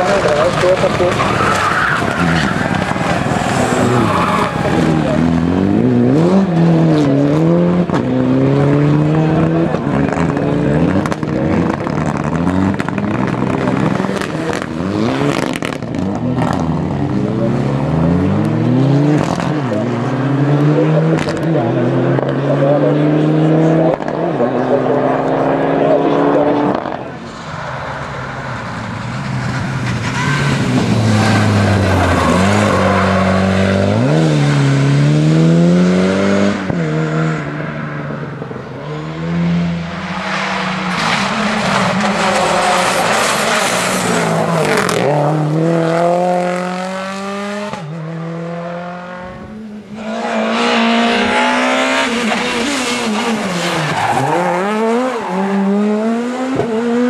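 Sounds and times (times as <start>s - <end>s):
rally car engines accelerating: 0.0s - 57.0s.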